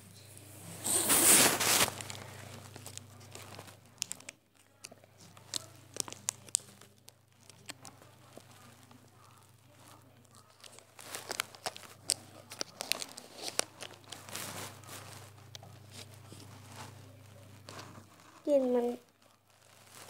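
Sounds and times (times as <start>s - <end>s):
plastic packaging crinkling: 0.8s - 20.0s
plastic packaging ripping: 0.8s - 20.0s.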